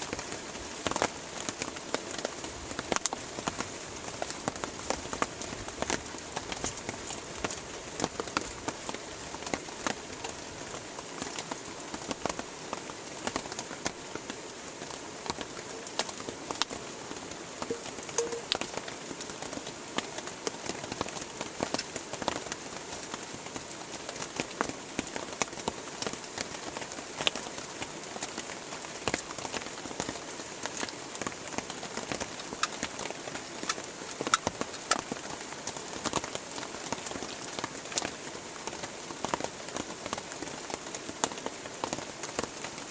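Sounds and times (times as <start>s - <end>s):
raindrops ticking close by: 0.0s - 42.9s.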